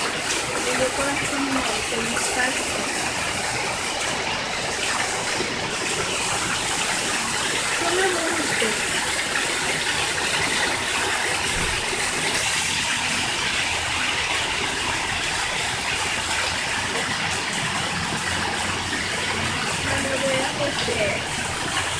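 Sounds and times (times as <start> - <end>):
running water rushing: 0.0 - 21.9.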